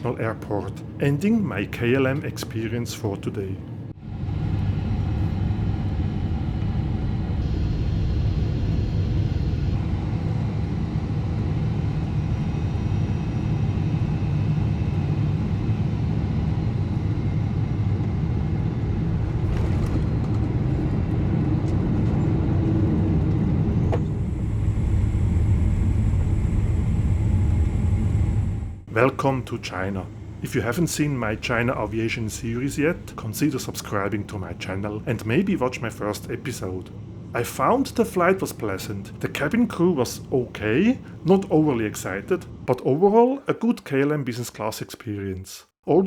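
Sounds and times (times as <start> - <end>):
airliner cabin rumble: 0.0 - 43.2.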